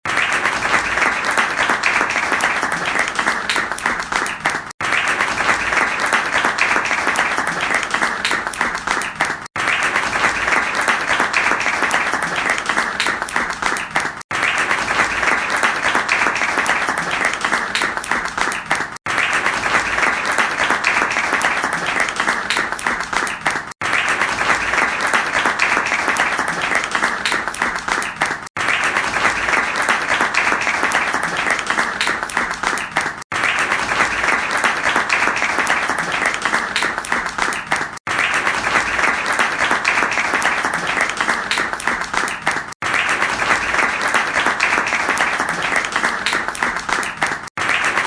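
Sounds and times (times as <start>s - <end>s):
crowd applauding: 0.0s - 48.0s.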